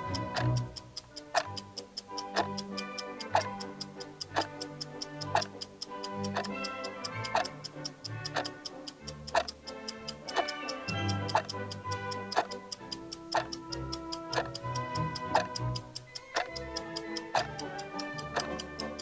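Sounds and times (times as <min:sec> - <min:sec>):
background music: 0:00.0 - 0:19.0
clock ticking: 0:00.0 - 0:19.0.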